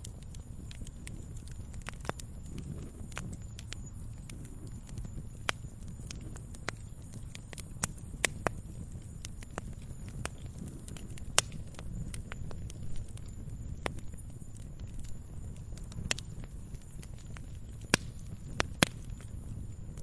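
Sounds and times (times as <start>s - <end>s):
campfire crackling and popping: 0.0s - 20.0s
low rumble of flame: 0.0s - 20.0s.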